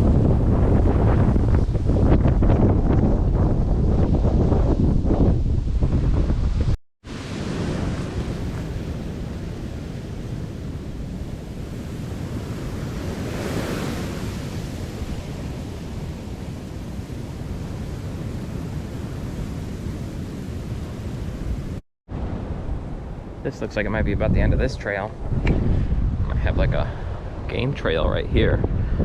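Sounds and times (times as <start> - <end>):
strong wind on microphone: 0.0 - 29.0.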